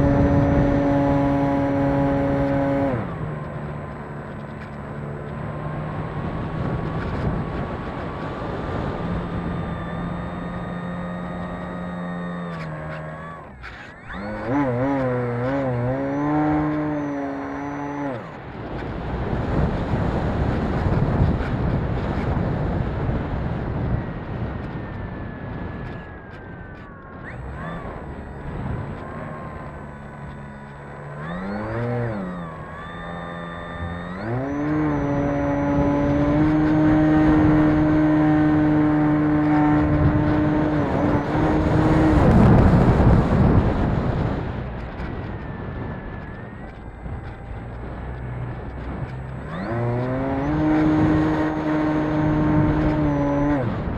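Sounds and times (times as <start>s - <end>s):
model airplane motor whine: 0.0s - 53.9s
wind buffeting microphone: 0.0s - 53.9s.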